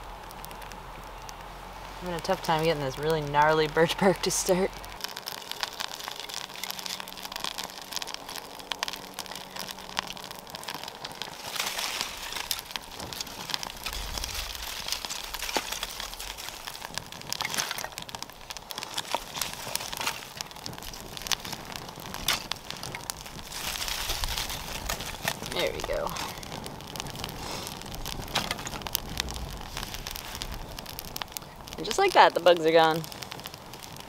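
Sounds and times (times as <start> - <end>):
bark tinder crinkling and crackling: 0.0 - 34.0.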